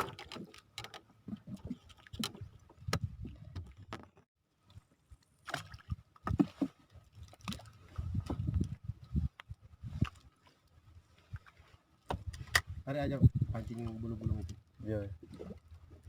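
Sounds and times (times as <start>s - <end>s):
water splashing against boat: 0.0s - 16.0s.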